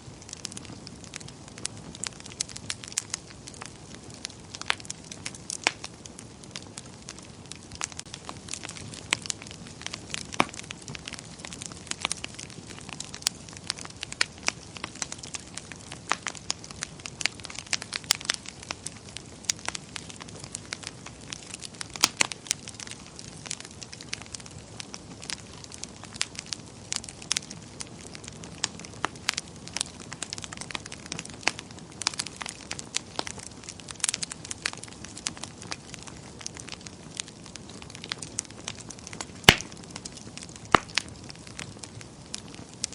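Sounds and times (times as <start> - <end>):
burning wood popping: 0.0 - 42.9
wood fire crackling: 0.0 - 42.9.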